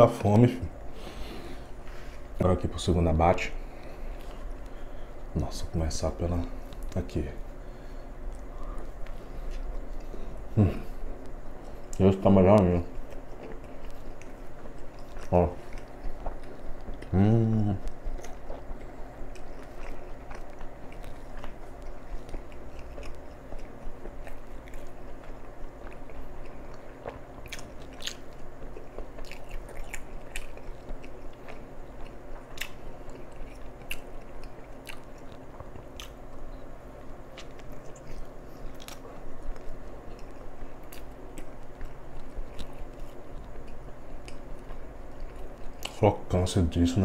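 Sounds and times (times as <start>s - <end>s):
steady low hum: 0.0s - 47.0s
person chewing: 3.5s - 5.6s, 6.6s - 46.0s.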